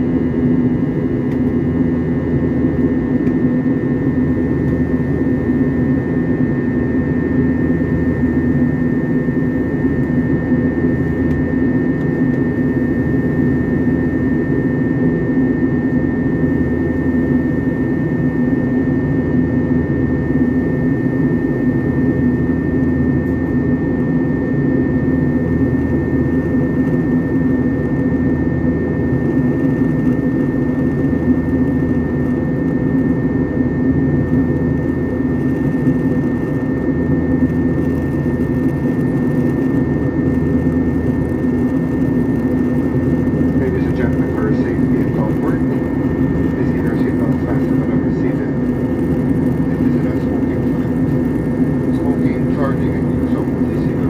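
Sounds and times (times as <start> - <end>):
airliner cabin engine and airflow noise: 0.0 - 54.0
faint high whine: 0.0 - 54.0.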